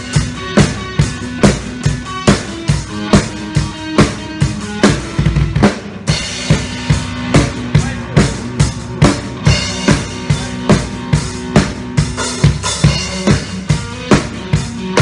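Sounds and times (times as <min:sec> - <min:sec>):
drum kit beat: 0:00.0 - 0:15.0
electric guitar playing: 0:00.0 - 0:15.0.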